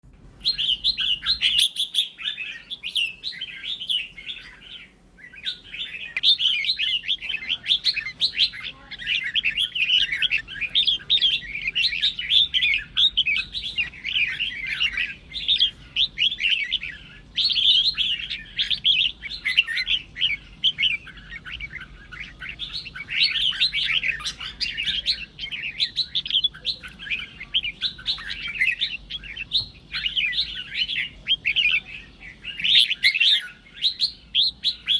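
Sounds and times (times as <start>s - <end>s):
bird singing chattering song: 0.4s - 34.9s.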